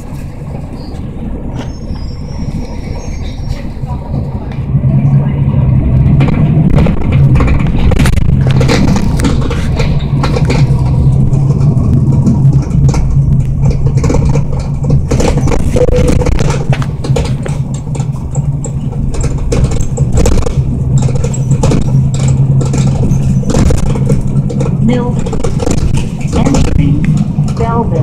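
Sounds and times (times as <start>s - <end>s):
bus body rattling and knocking: 0.0s - 28.0s
bus engine drone: 0.0s - 28.0s.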